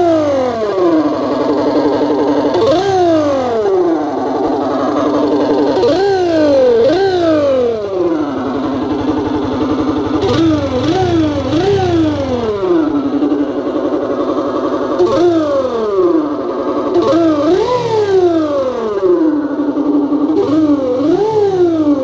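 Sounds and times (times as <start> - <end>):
simulated motorcycle engine revving: 0.0 - 22.0.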